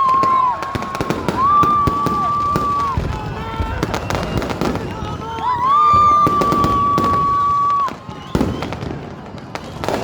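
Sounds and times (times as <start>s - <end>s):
firecrackers popping: 0.0s - 10.0s.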